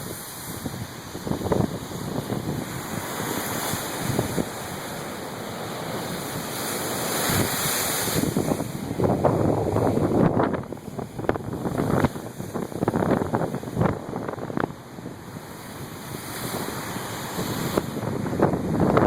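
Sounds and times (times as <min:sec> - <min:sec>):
gusting wind: 0:00.0 - 0:19.0
surf crashing ashore: 0:00.0 - 0:19.0
wind buffeting microphone: 0:00.0 - 0:19.0.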